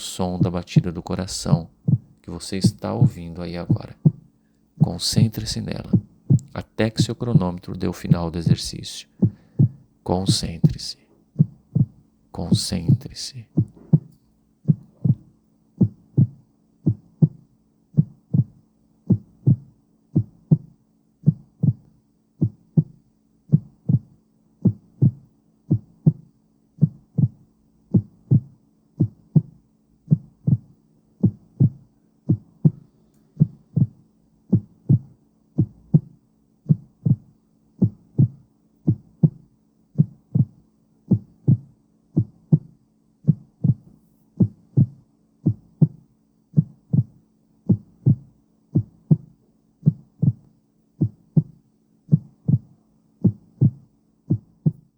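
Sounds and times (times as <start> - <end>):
faint low hum: 0.0 - 54.9
heartbeat double thump: 0.3 - 17.4, 18.0 - 32.8, 33.4 - 39.4, 40.0 - 46.0, 46.6 - 54.9.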